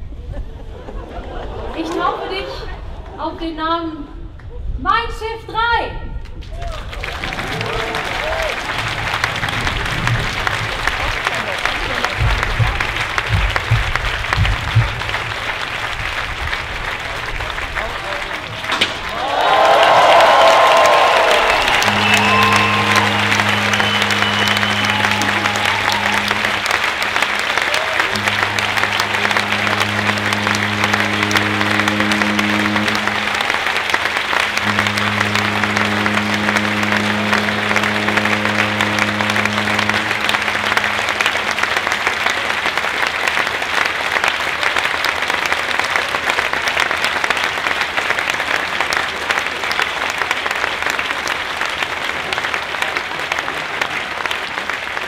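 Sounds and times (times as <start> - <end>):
crowd applause: 0.7 - 3.2, 6.5 - 55.0
deep ship horn blasts: 7.0 - 54.8.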